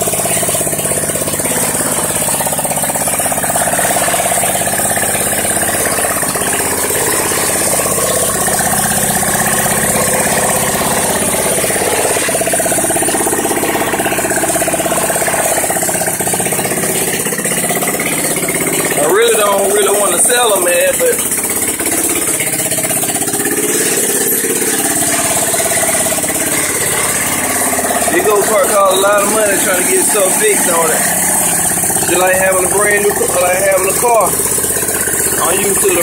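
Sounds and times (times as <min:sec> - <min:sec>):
small engine idling: 0:00.0 - 0:36.0.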